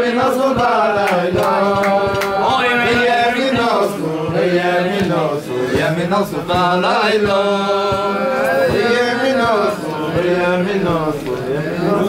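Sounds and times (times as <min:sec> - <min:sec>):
men singing together: 0:00.0 - 0:12.0
steady beat of sharp strokes: 0:00.0 - 0:12.0.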